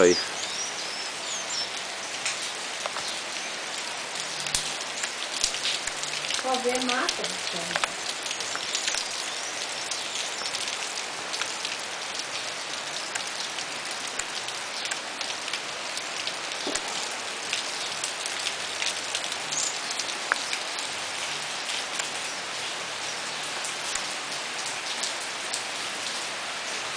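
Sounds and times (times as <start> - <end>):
steady rain falling: 0.0 - 26.9
sharp raindrop ticks: 1.3 - 22.3, 23.5 - 26.2.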